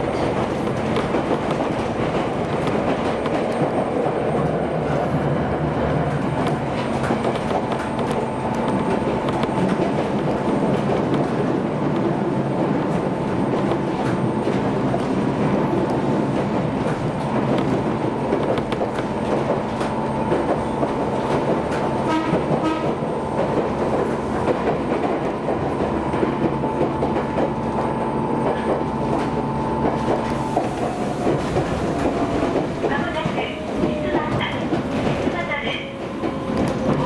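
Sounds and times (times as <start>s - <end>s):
train running noise: 0.0s - 37.0s.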